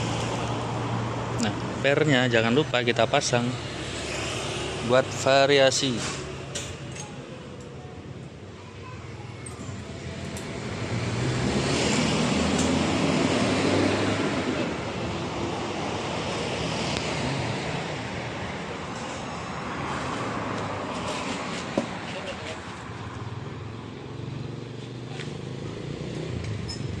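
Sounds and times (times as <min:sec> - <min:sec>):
vehicle passing by: 0:00.0 - 0:06.5, 0:09.9 - 0:27.0.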